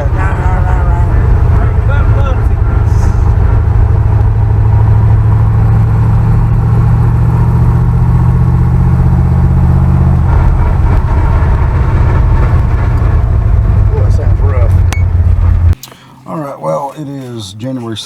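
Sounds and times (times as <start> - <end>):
truck engine droning: 0.0 - 16.6.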